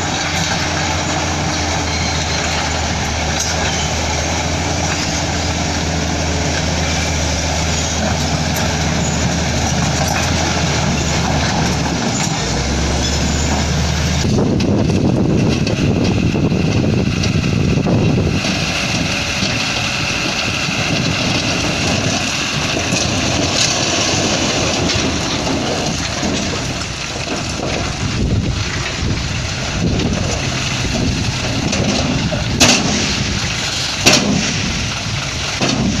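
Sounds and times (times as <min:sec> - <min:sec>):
diesel truck engine running: 0:00.0 - 0:36.0
rock load dumping: 0:00.0 - 0:36.0.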